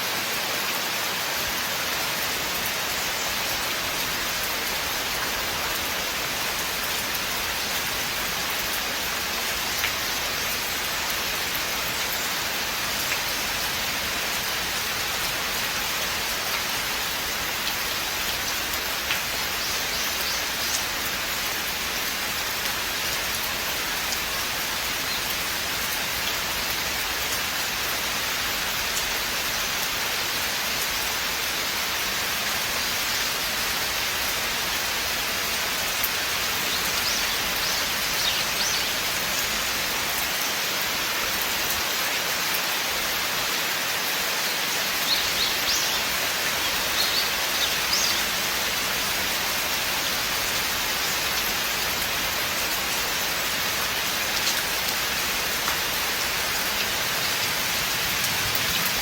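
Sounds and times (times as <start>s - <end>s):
rain falling in a forest: 0.0s - 59.0s.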